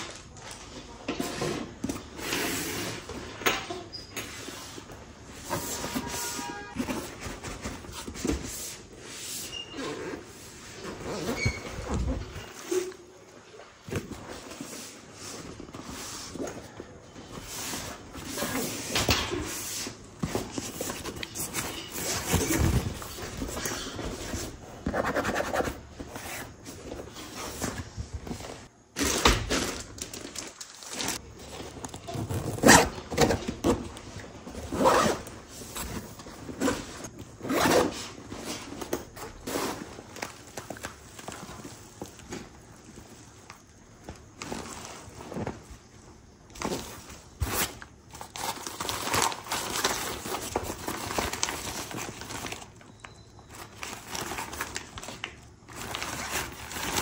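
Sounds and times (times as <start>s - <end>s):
fabric and plastic rustling: 0.0s - 57.0s.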